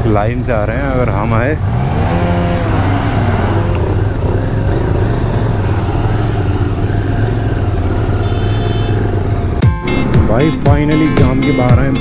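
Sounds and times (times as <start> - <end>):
motorcycle engine at low revs: 0.0 - 12.0
passing vehicle engine: 0.0 - 12.0.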